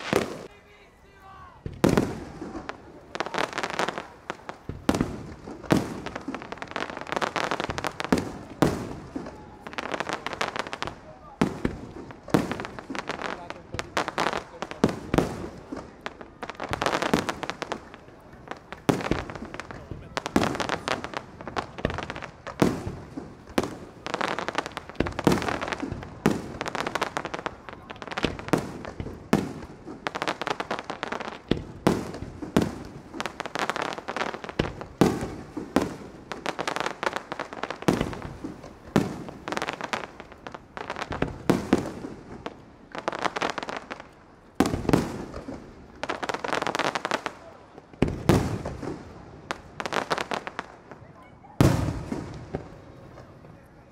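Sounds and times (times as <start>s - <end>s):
fireworks bursting: 0.0s - 53.9s.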